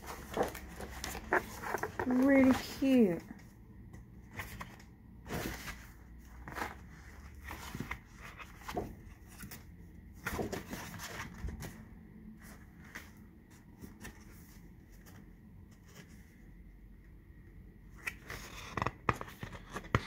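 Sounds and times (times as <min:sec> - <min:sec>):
paper rustling and crinkling: 0:00.0 - 0:16.6, 0:17.9 - 0:20.0.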